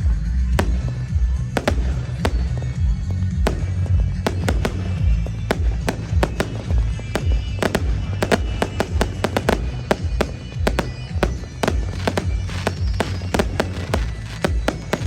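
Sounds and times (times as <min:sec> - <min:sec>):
fireworks bangs and cracks: 0:00.0 - 0:15.0
music with heavy bass: 0:00.0 - 0:15.0.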